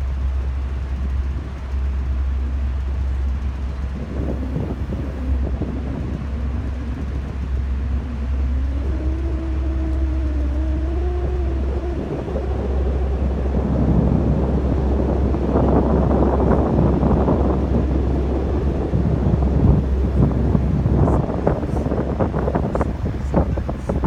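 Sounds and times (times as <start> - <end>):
ferry engine droning: 0.0 - 24.0
rushing wind: 0.0 - 24.0
water wash: 0.0 - 24.0
wavering higher hum: 0.0 - 24.0.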